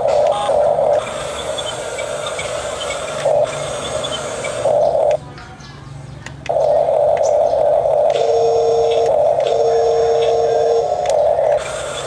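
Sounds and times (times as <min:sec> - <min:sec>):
electric motors whining: 0:00.0 - 0:05.3, 0:06.2 - 0:12.0.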